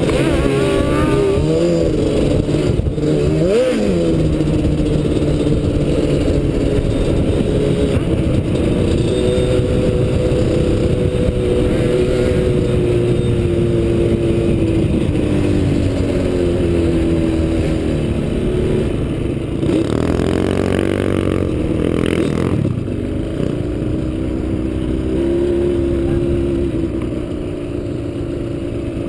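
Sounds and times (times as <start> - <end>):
rush of noise: 0.0 - 27.2
atv engine running: 0.0 - 29.0.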